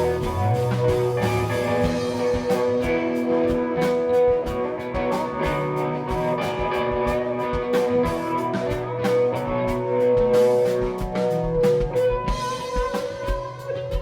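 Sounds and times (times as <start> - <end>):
bass guitar: 0.0 - 14.0
electric guitar: 0.0 - 14.0
steady drum beat: 0.0 - 14.0.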